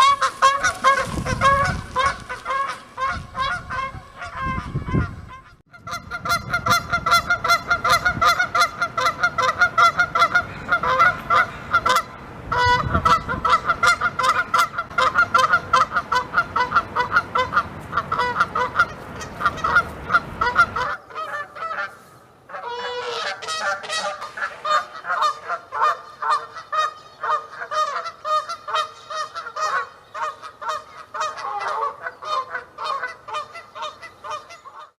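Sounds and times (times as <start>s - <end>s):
geese honking: 0.0s - 34.9s.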